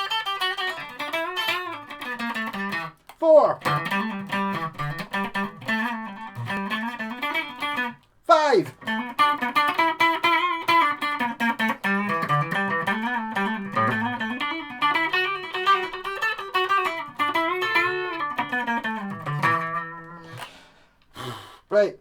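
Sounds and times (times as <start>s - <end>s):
electric guitar single notes: 0.0s - 3.0s, 3.6s - 8.0s, 8.6s - 20.4s.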